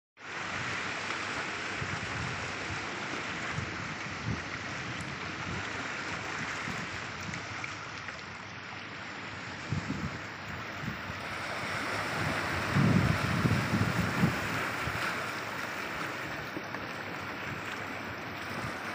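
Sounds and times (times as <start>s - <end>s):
small waves breaking on rocks: 0.3s - 18.9s
water running among rocks: 0.3s - 18.9s
wind buffeting microphone: 1.6s - 7.6s, 9.3s - 18.9s.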